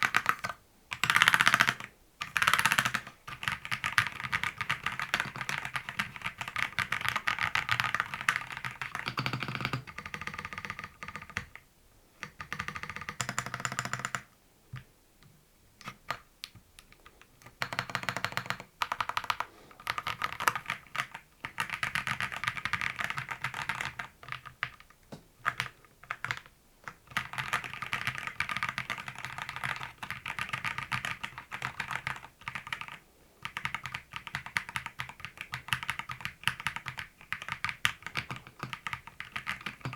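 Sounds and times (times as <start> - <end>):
fast typing on mechanical keyboard: 0.0 - 11.6, 12.2 - 14.3, 17.4 - 39.9.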